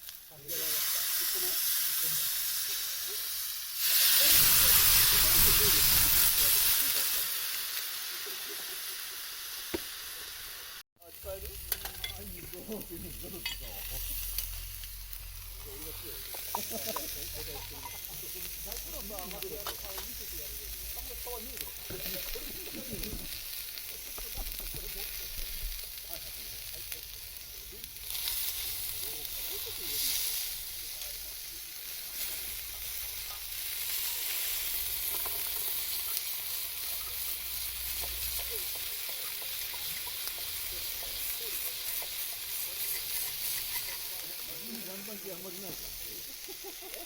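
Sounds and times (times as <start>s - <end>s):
food sizzling on a hot pan: 0.0s - 47.0s.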